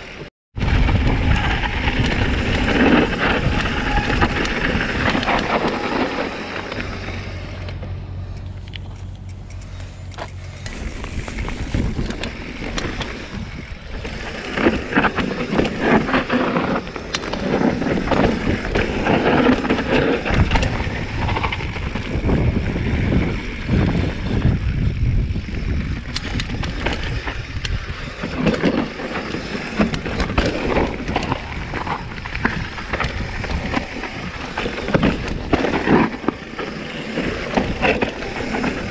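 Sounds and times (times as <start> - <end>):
tyres rolling over dirt and rocks: 0.0 - 7.9, 9.8 - 38.9
bike clattering over bumps: 0.6 - 7.7, 8.8 - 38.9.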